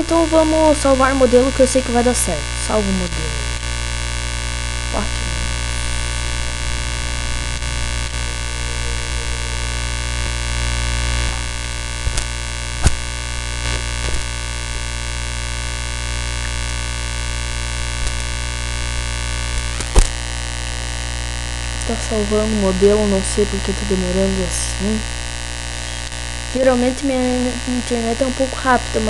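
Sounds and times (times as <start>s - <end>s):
electrical hum and hiss: 0.0s - 29.0s.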